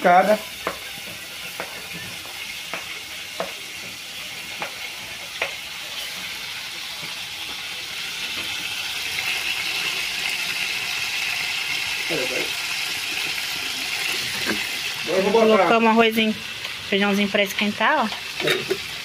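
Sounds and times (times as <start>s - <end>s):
sausage sizzling in a pan: 0.0s - 19.0s.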